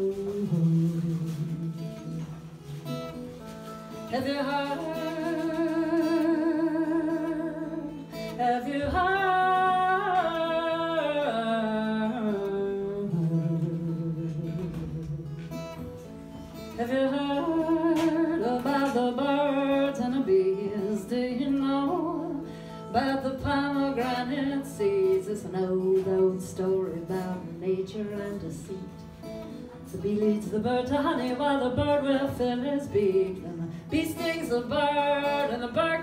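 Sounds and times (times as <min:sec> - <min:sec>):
woman singing: 0:00.0 - 0:03.0, 0:03.9 - 0:16.0, 0:16.6 - 0:36.0
acoustic guitar: 0:00.0 - 0:36.0.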